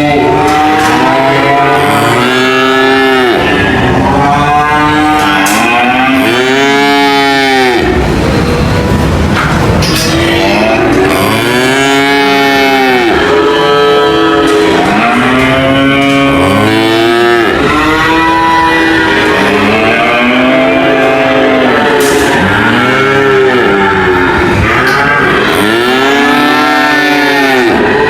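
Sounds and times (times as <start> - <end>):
cattle mooing: 0.0 - 28.0.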